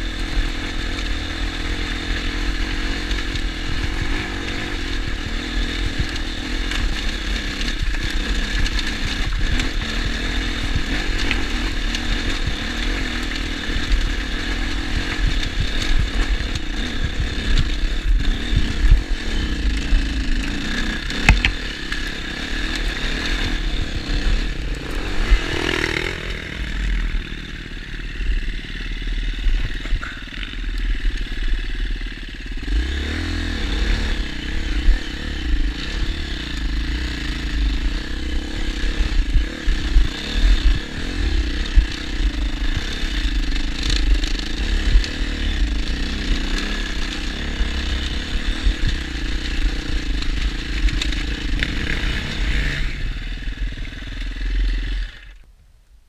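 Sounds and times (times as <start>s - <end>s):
two-stroke motorcycle engine: 0.0s - 55.5s.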